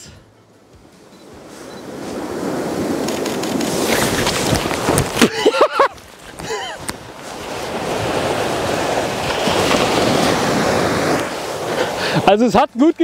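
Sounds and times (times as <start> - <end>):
waves washing on sandy shore: 0.0 - 13.0.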